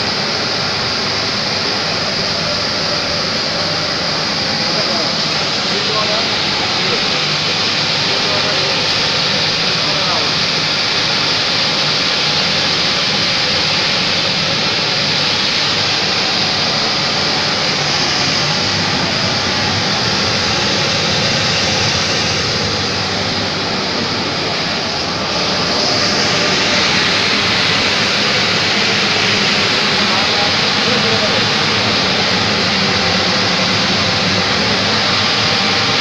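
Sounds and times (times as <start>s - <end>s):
machinery rushing hum: 0.0s - 36.0s.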